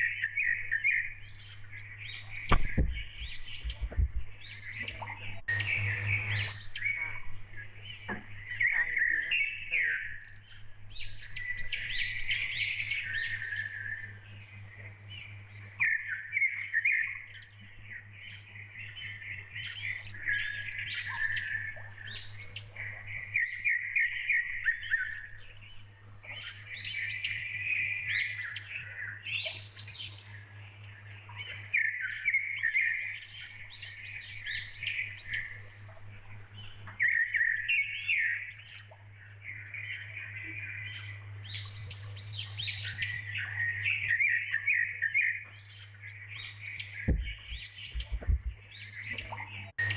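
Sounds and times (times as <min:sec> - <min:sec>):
birds chirping and trilling: 0:00.0 - 0:49.9
steady low hum: 0:00.0 - 0:49.9.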